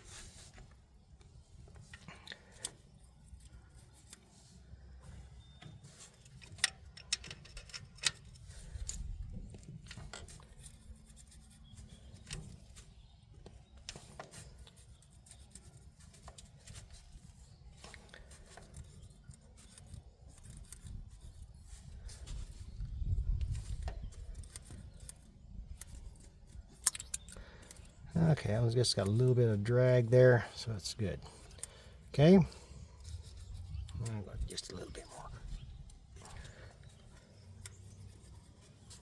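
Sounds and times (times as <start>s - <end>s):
hand tools clicking and scraping: 0.0s - 39.0s.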